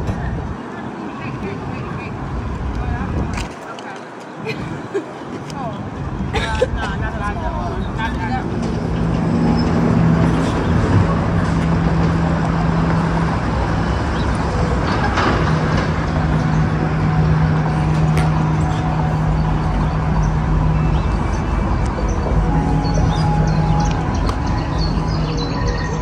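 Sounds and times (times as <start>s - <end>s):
city traffic hum: 0.0s - 26.0s.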